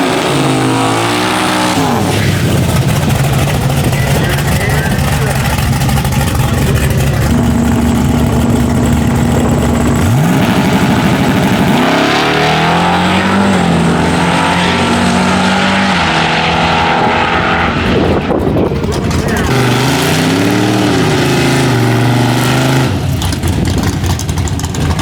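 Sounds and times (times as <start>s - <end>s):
drag car engine revving: 0.0s - 25.0s.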